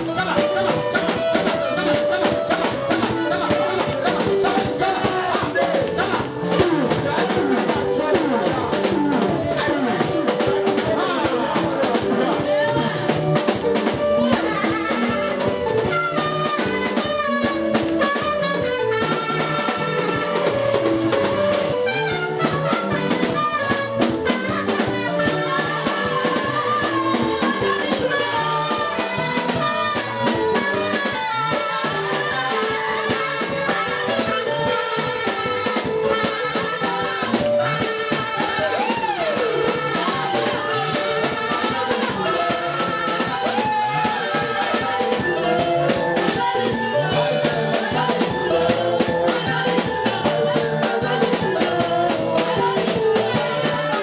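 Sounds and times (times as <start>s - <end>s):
music with drum beat: 0.0s - 54.0s
person singing: 0.0s - 54.0s.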